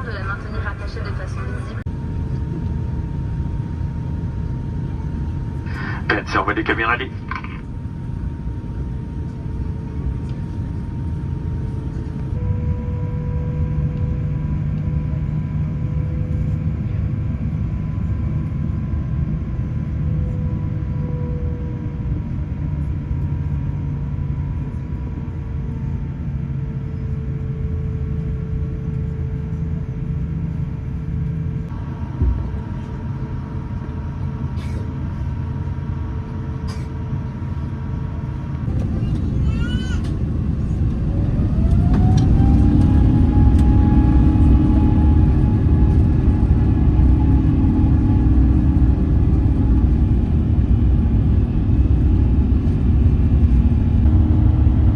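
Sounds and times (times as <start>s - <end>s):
engine low rumble: 0.0s - 54.9s
high engine whine: 0.0s - 54.9s.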